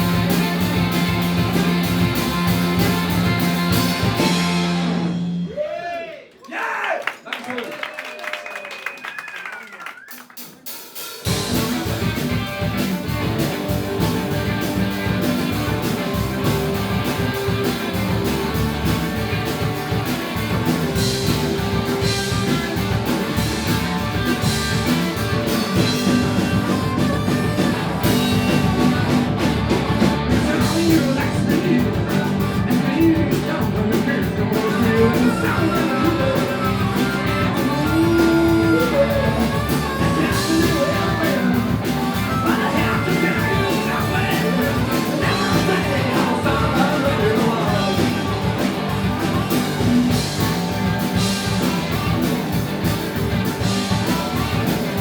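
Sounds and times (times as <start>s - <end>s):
live rock band playing: 0.0s - 5.5s, 10.4s - 55.0s.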